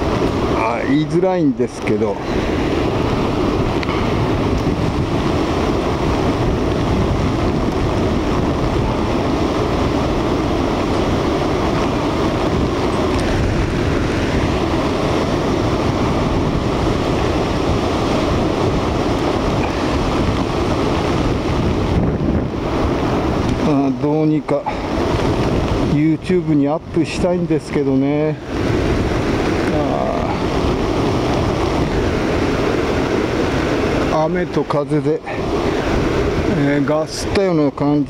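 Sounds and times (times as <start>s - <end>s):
heavy surf crashing: 0.0s - 38.0s
wind blowing across microphone: 0.0s - 38.0s.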